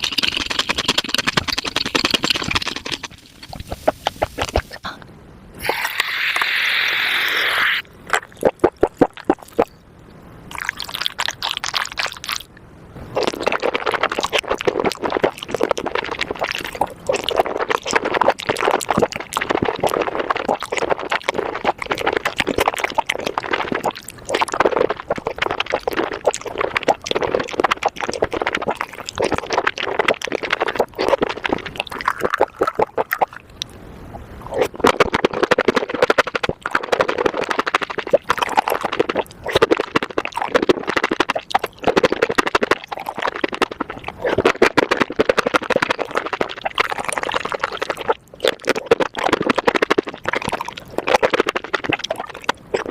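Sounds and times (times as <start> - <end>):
wet chewing and slurping: 0.0 - 5.0, 5.6 - 9.8, 10.5 - 12.5, 13.1 - 52.9.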